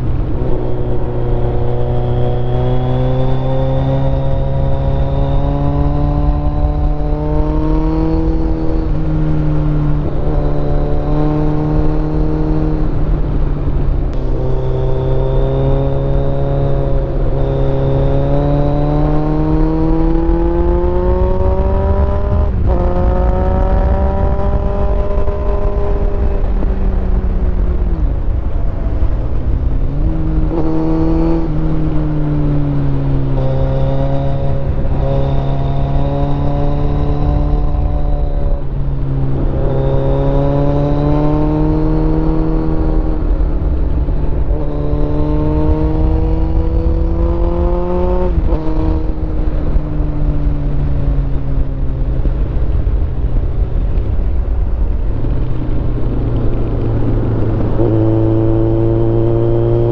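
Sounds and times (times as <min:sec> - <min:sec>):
motorcycle engine revving: 0:00.0 - 0:59.9
wind rumble on microphone: 0:00.0 - 0:59.9.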